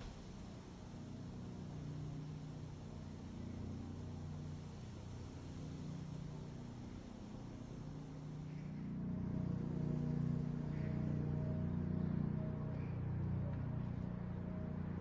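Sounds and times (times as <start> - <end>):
distant helicopter drone: 0.0 - 15.0.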